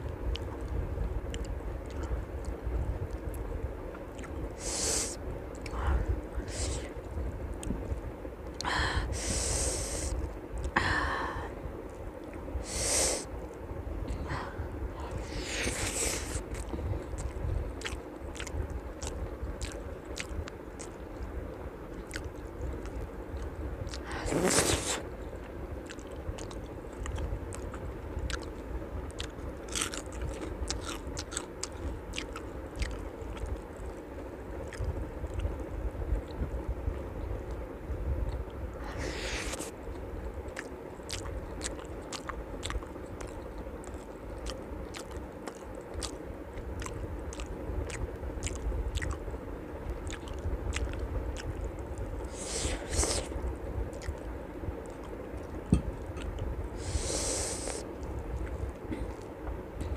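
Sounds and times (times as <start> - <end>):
chewing and wet mouth sounds: 0.0 - 8.7, 11.8 - 59.9.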